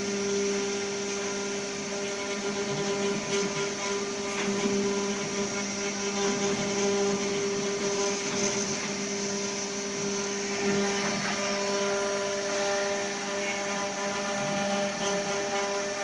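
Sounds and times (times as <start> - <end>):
wood router spindles whining: 0.0 - 16.0.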